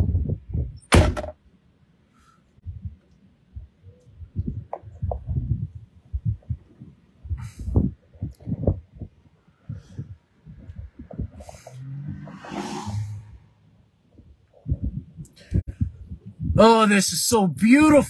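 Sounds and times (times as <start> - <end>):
wind buffeting microphone: 0.0 - 1.0, 2.6 - 16.8.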